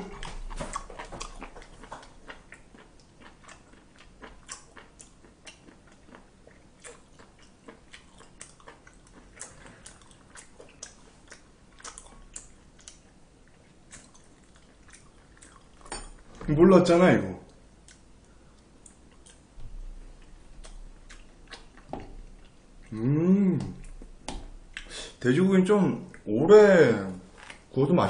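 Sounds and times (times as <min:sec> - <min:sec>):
man chewing: 0:00.0 - 0:16.4, 0:17.5 - 0:25.2.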